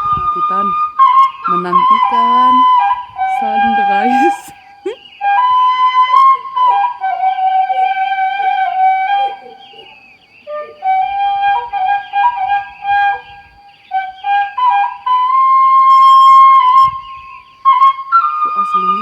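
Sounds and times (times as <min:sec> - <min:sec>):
flute playing slow melody: 0:00.0 - 0:19.0.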